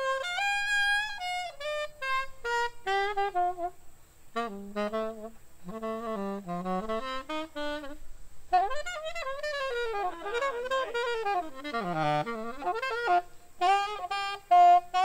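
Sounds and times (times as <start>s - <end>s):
saxophone playing jazz melody: 0.0s - 15.0s.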